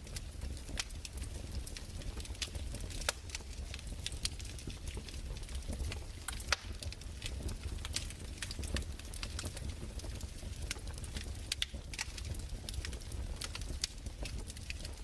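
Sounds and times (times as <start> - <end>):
fireplace fire crackling: 0.0 - 15.0
sharp fire pops: 0.1 - 15.0.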